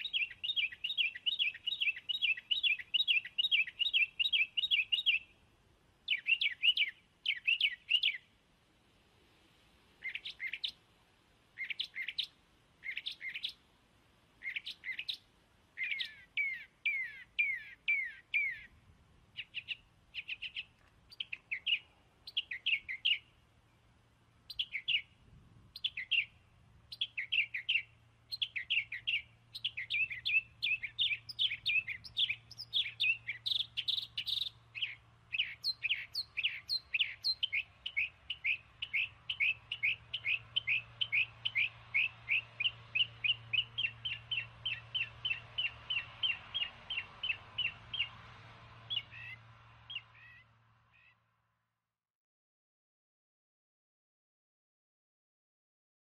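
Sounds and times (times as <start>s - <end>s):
bird chirping: 0.0s - 5.4s, 6.0s - 8.4s, 10.0s - 10.8s, 11.6s - 13.6s, 14.4s - 51.2s.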